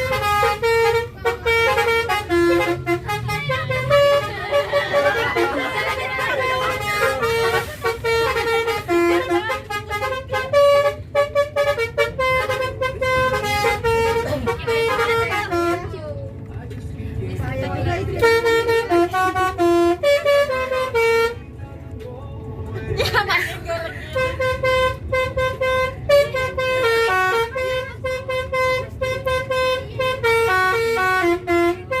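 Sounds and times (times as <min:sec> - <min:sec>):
musical air horn melody: 0:00.0 - 0:15.8, 0:18.2 - 0:21.4, 0:24.1 - 0:32.0.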